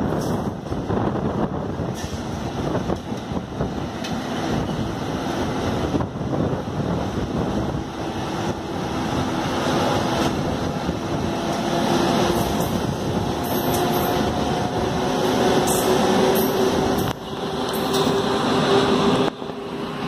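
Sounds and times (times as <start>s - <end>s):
train wheels rumbling on track: 0.0s - 20.0s
wind rush: 0.0s - 20.0s.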